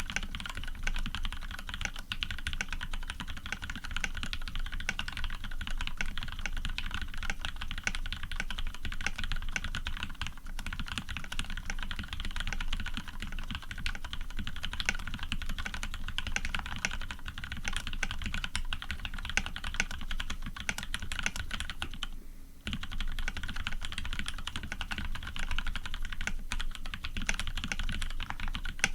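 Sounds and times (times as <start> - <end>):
fast typing on mechanical keyboard: 0.0 - 28.9.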